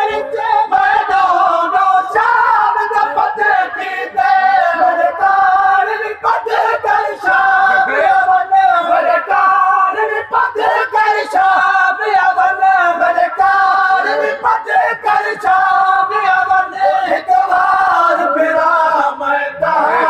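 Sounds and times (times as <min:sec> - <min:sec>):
men singing lament in unison: 0:00.0 - 0:20.0.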